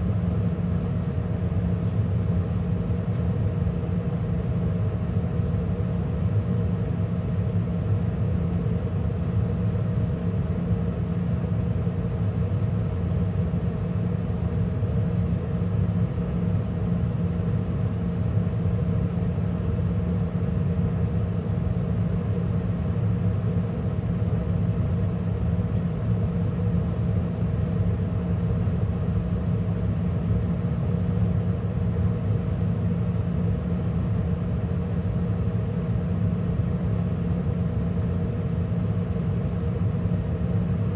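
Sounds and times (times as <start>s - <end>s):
gas furnace humming: 0.0s - 40.9s.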